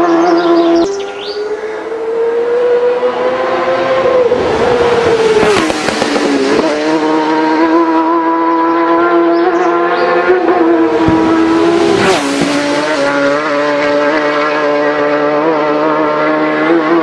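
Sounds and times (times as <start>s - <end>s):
racing motorcycle passing at speed: 0.0s - 17.0s.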